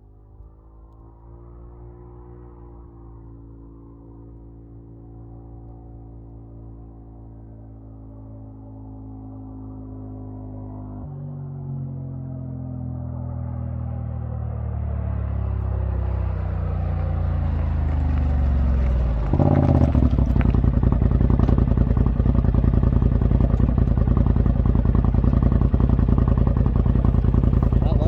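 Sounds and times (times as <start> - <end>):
engine exhaust drone: 0.0 - 28.0.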